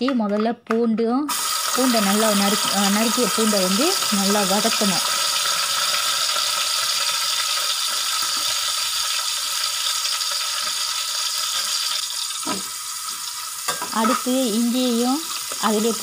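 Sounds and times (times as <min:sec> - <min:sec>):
garlic sizzling in hot oil: 0:01.3 - 0:16.0.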